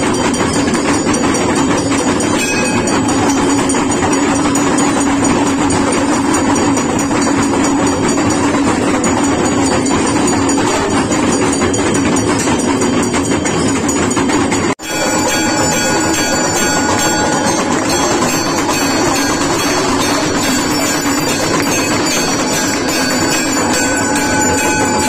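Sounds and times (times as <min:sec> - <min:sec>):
large brass bell struck: 0:00.0 - 0:11.9, 0:14.8 - 0:25.0
temple bells clanging: 0:00.0 - 0:25.0.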